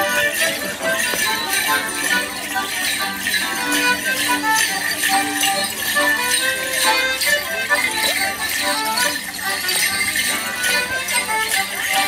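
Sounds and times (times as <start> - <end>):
accordion dance tune: 0.0 - 12.0
bells jingling: 0.0 - 12.0.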